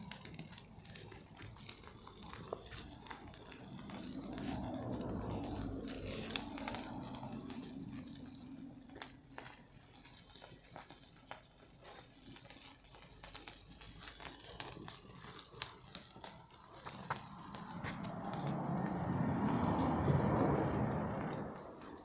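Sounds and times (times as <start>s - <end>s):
bonfire crackling and popping: 0.0s - 22.0s.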